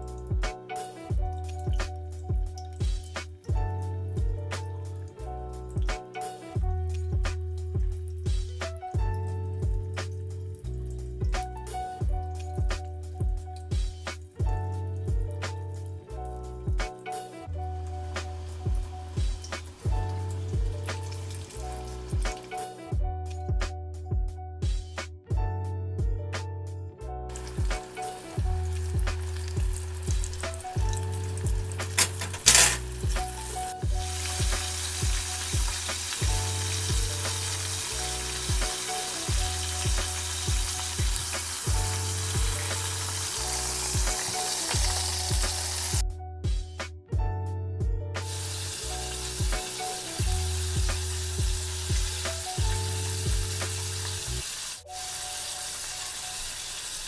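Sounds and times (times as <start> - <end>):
chicken deep-frying in oil: 0.0 - 16.9, 17.7 - 22.7, 27.3 - 46.0, 48.2 - 57.0
hip-hop backing track: 0.0 - 55.0.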